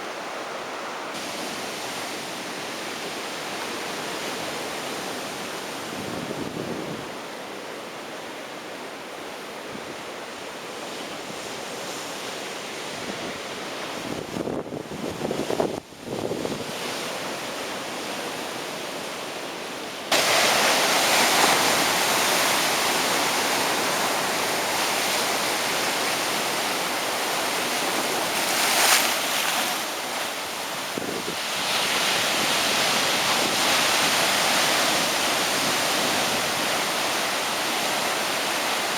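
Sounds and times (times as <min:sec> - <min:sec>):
ocean surf breaking on beach: 0:00.0 - 0:38.9.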